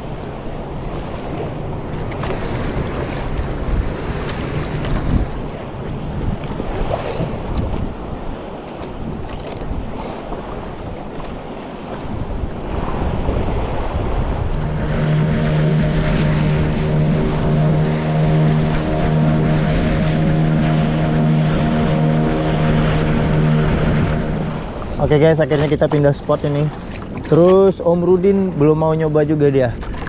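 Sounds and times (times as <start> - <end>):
water against boat: 0.0 - 30.0
wind: 0.0 - 30.0
boat motor running: 0.4 - 30.0.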